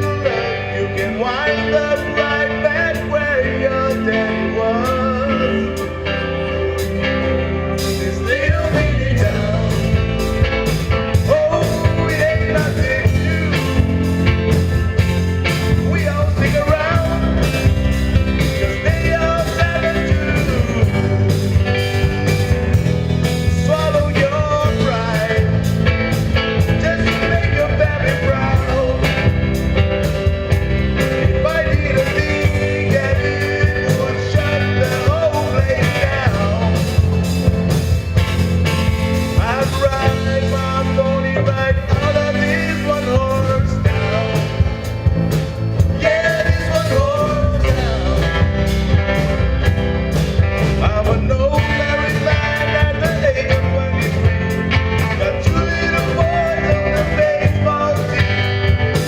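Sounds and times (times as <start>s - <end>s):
rock and roll music: 0.0s - 59.0s.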